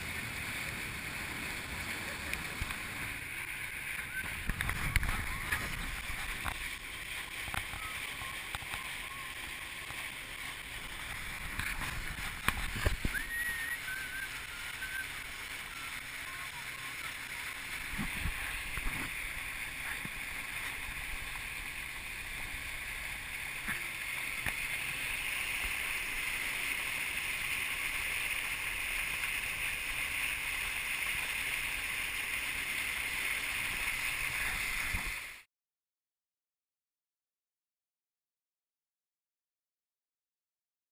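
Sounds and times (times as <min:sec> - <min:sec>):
rush of running water: 0:00.0 - 0:35.5.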